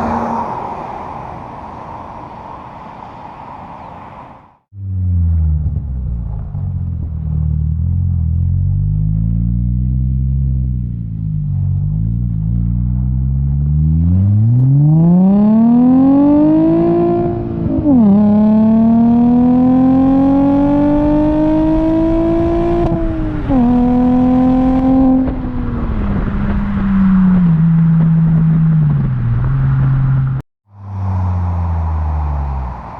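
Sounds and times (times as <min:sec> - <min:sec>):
car engine accelerating: 0:04.7 - 0:32.9.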